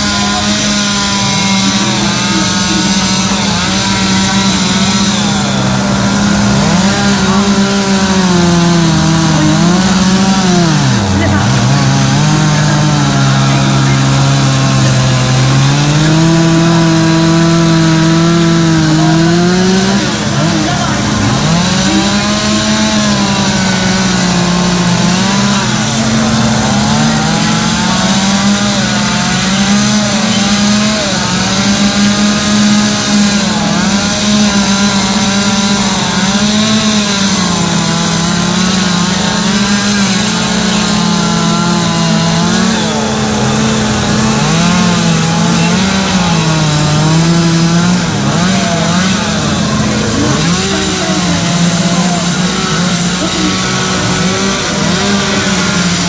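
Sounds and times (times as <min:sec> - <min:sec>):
chainsaws cutting wood: 0:00.0 - 0:56.0.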